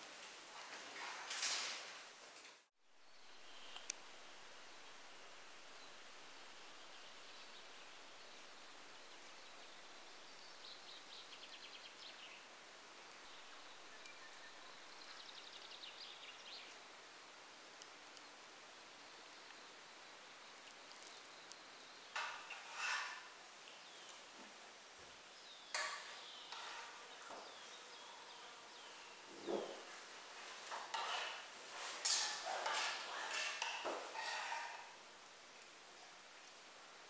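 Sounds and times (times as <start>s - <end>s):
soft steady hiss: 0.0s - 37.0s.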